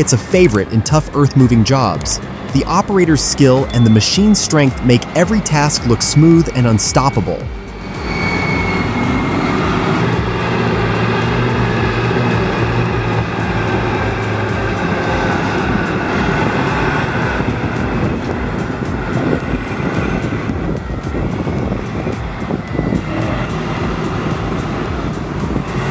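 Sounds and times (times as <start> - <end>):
diesel engine running under load: 0.0 - 25.9.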